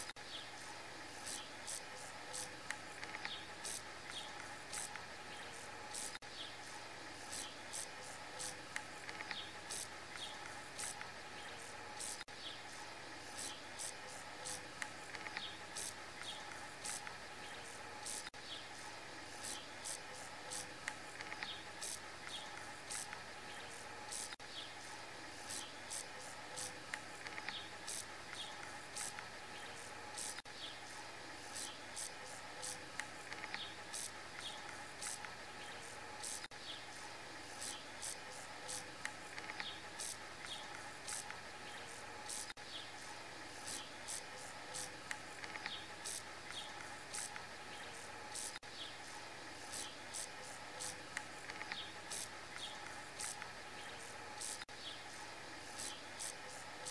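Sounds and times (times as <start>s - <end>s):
faint insect hum: 0.0s - 56.9s
grasshopper chirping: 0.0s - 56.9s.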